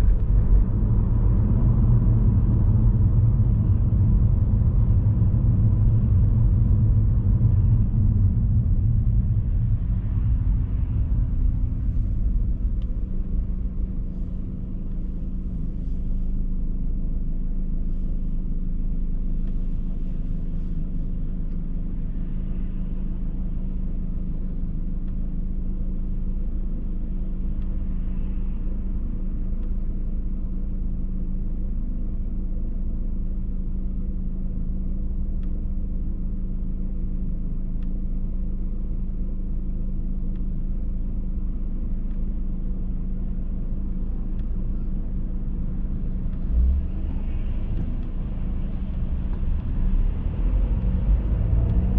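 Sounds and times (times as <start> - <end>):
car road and engine rumble: 0.0 - 51.9
constant hum: 0.0 - 51.9.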